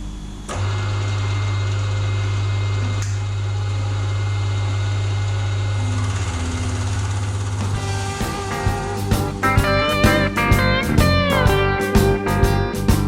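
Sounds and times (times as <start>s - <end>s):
milling machine motor humming: 0.3s - 12.0s.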